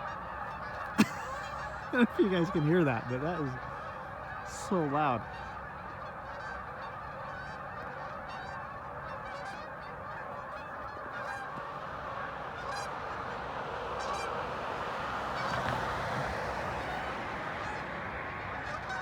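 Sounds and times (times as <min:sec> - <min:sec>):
flock of geese honking: 0:00.0 - 0:19.0.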